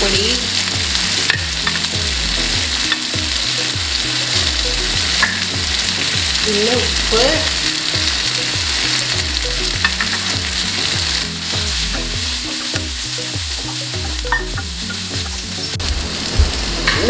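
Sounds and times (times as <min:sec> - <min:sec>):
spices sizzling in oil: 0:00.0 - 0:17.0.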